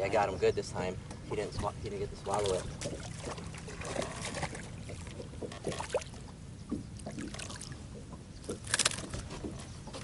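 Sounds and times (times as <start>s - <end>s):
water lapping against a boat hull: 0.0s - 10.0s.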